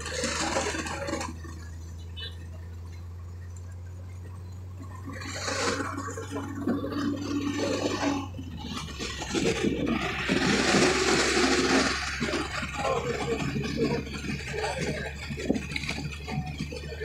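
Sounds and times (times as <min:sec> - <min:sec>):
bus passing: 0:00.0 - 0:17.0
low engine hum: 0:00.0 - 0:17.0
wind and road noise: 0:00.0 - 0:17.0.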